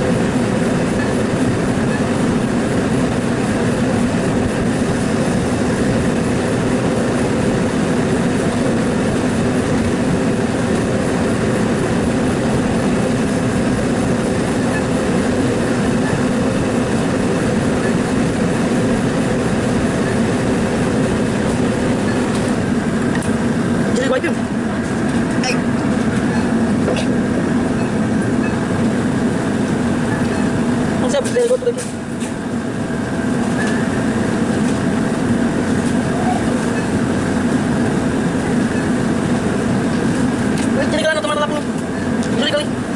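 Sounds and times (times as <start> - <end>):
loud mechanical rumble: 0.0 - 42.9
vehicle running noise inside: 0.0 - 42.9.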